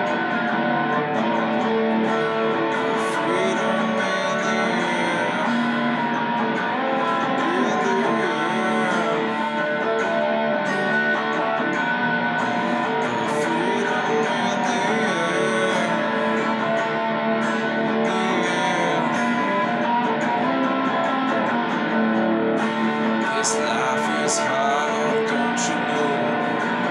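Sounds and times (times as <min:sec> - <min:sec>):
electric guitar strumming chords: 0:00.0 - 0:26.9.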